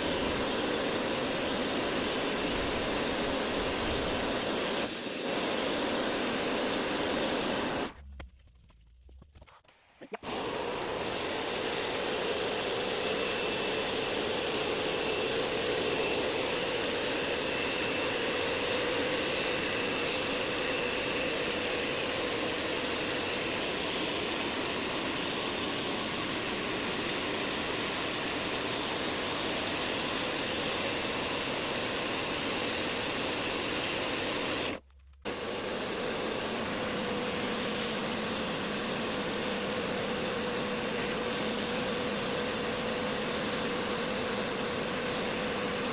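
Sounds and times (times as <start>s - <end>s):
pressure washer water jet: 0.0s - 8.0s, 10.1s - 45.9s
pump motor running: 0.0s - 8.0s, 10.1s - 45.9s.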